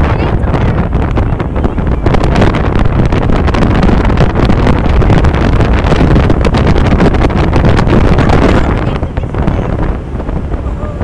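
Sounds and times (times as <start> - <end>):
boat engines droning: 0.0 - 11.0
water rushing past hull: 0.0 - 11.0
wind buffeting microphone: 0.0 - 11.0.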